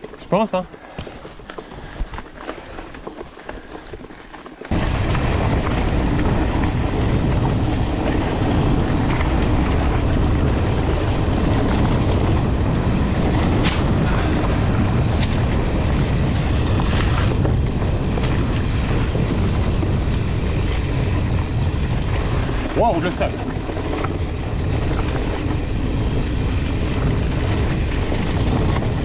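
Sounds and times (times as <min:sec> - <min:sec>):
bike tyres rolling on dirt trail: 0:00.0 - 0:29.0
wind buffeting microphone: 0:04.7 - 0:29.0.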